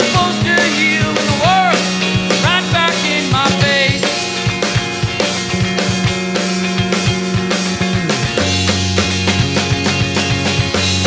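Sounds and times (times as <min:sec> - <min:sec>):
drum kit with cymbals: 0:00.0 - 0:11.0
electric bass: 0:00.0 - 0:11.0
electric guitar: 0:00.0 - 0:11.0.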